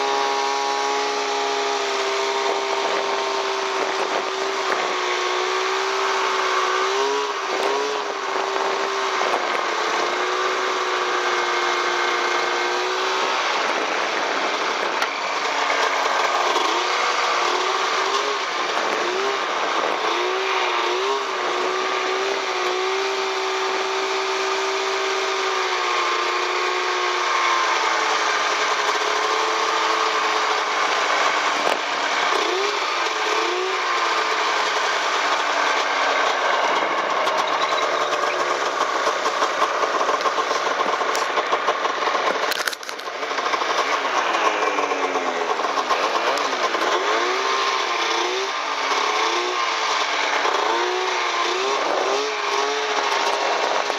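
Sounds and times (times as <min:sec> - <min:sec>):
snowmobile engine running: 0:00.0 - 0:53.9.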